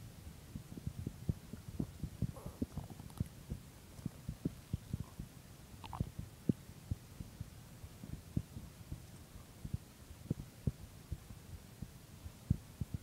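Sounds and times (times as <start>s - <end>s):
heartbeat thumps: 0.3s - 13.0s.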